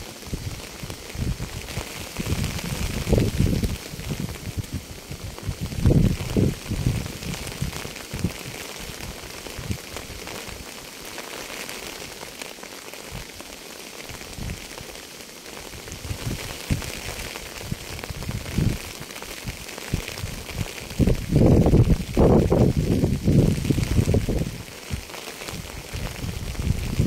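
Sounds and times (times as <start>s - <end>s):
heavy raindrops thumping: 0.0s - 27.0s
rain hissing: 0.0s - 27.0s.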